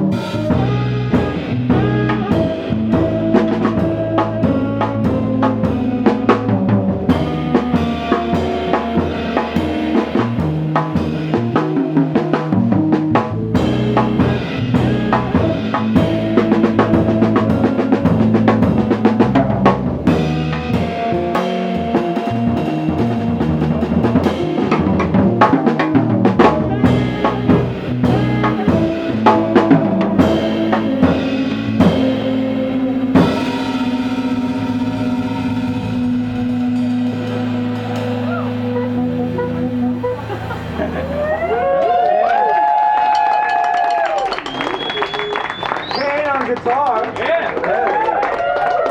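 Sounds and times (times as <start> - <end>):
jazz band playing: 0.0 - 43.0
busy drumming: 0.0 - 48.9.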